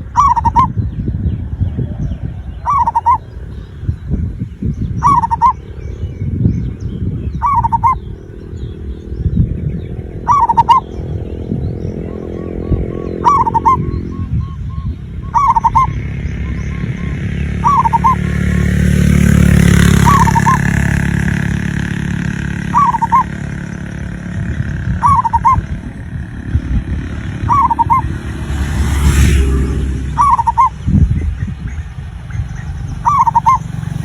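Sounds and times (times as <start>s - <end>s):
dove cooing: 0.0s - 0.9s, 1.5s - 4.1s, 4.9s - 31.6s, 32.4s - 34.0s
low rumble: 0.0s - 34.0s.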